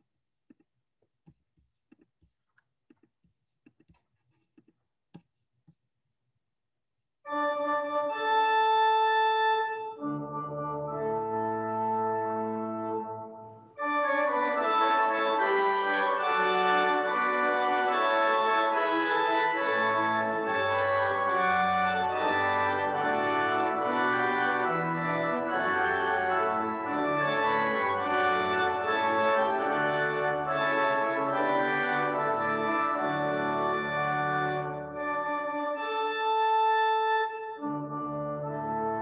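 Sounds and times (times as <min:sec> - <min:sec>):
organ chords: 0:07.3 - 0:39.0.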